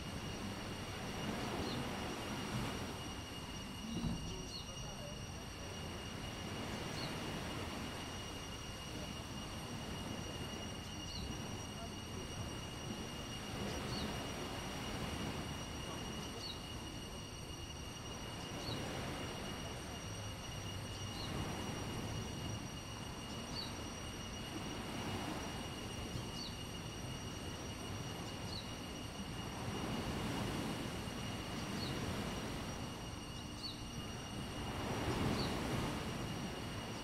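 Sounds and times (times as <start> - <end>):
sea waves washing ashore: 0.0 - 37.0
steady hiss: 0.0 - 37.0
thin steady high tone: 0.0 - 37.0.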